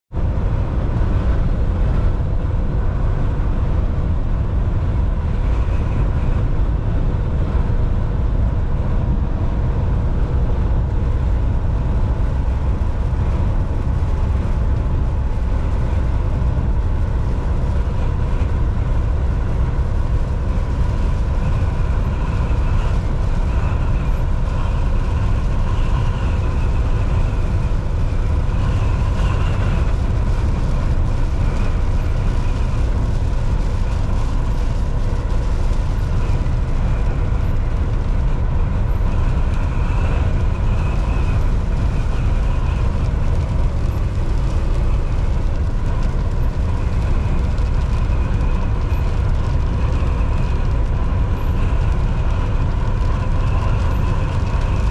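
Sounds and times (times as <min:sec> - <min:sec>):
road noise: 0:00.0 - 0:54.9
faint steady whine: 0:00.2 - 0:54.9
truck engine drone: 0:00.2 - 0:54.9.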